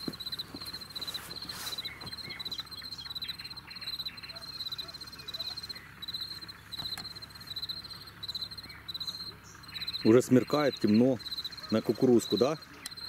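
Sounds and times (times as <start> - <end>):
crickets chirping in pulsed trills: 0.0 - 13.0.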